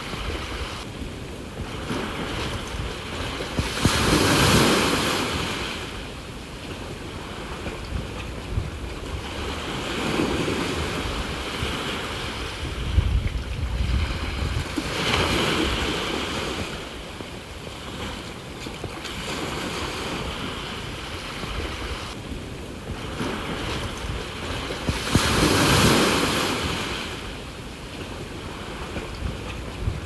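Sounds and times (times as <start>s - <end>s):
low wind rumble on microphone: 0.0s - 30.0s
sea waves washing onto shore: 0.0s - 30.0s.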